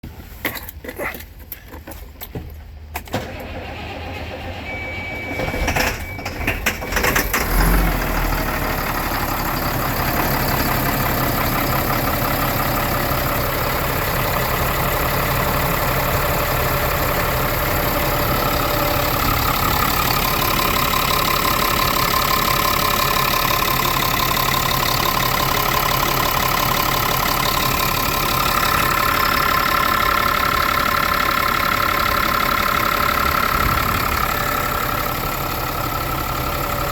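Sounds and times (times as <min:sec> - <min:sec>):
diesel engine cranking and idling: 0:00.0 - 0:36.9.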